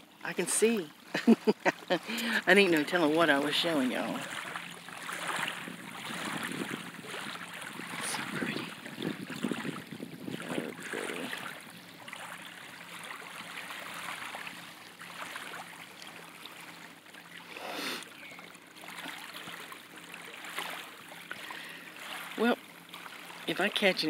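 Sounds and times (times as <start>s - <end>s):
small waves lapping at shore: 0.0s - 24.0s.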